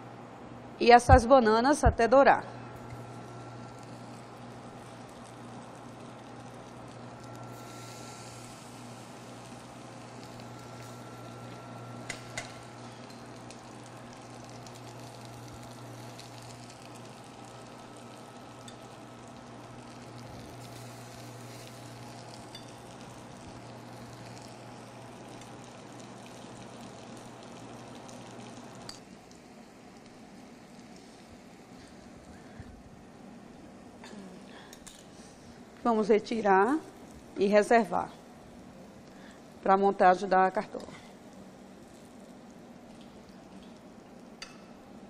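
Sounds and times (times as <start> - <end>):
low steady hum: 0.0 - 45.0
food sizzling in a frying pan: 2.6 - 32.6, 35.9 - 45.0.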